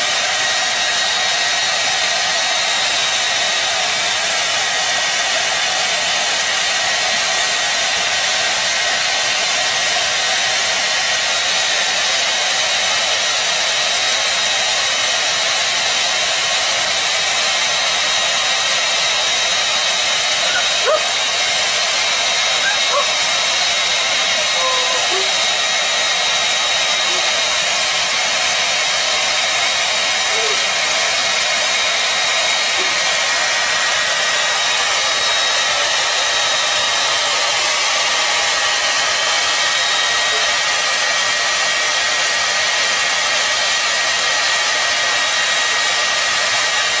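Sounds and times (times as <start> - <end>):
hair dryer running: 0.0 - 47.0.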